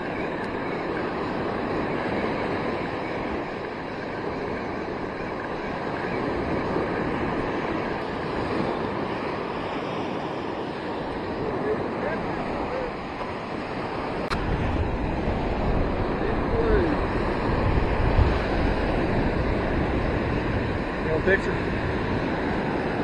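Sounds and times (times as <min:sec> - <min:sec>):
surf breaking on beach: 0:00.0 - 0:23.0
wind on microphone: 0:00.0 - 0:23.0.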